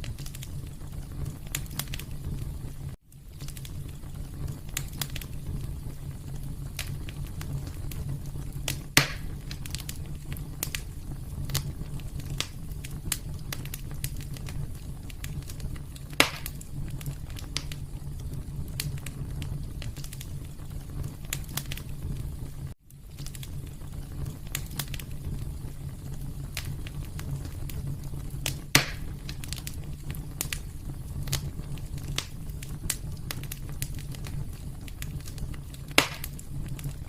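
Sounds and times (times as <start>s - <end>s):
loud fire pops: 0.0s - 37.0s
low rumble of flame: 0.0s - 37.0s
wood fire crackling: 0.0s - 37.0s.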